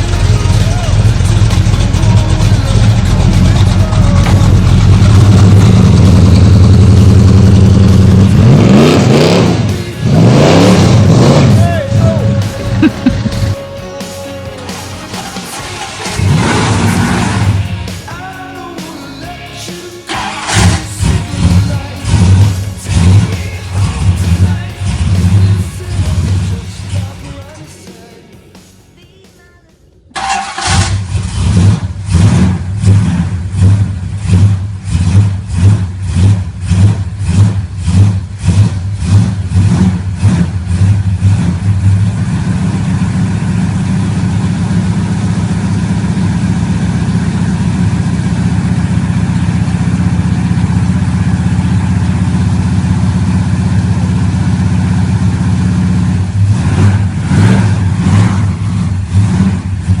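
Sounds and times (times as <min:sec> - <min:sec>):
car engine idling and revving: 0:00.0 - 0:29.0, 0:29.9 - 1:00.0.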